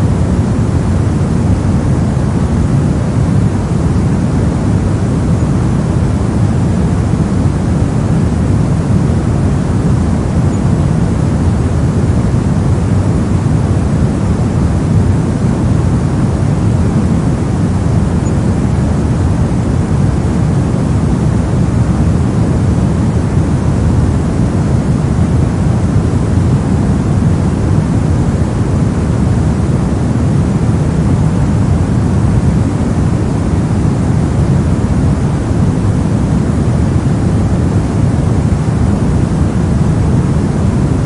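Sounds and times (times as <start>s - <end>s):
brown noise hiss: 0.0s - 41.0s.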